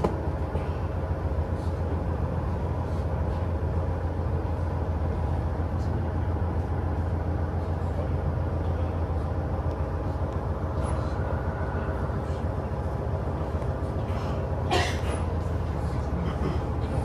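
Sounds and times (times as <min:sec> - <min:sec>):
railcar engine drone: 0:00.0 - 0:17.0.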